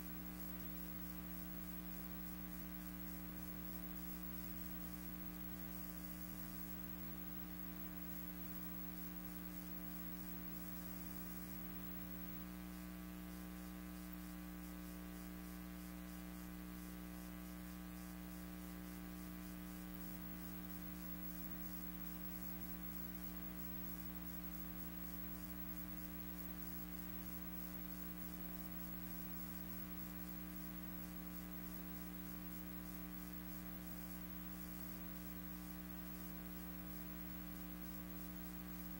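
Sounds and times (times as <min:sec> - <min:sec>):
electrical mains hum: 0:00.0 - 0:38.9
faint hiss: 0:00.0 - 0:38.9.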